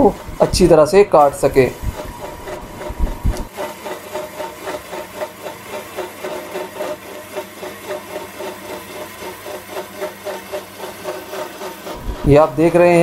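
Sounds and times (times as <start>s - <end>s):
blade grinding through steel: 0.0s - 13.0s.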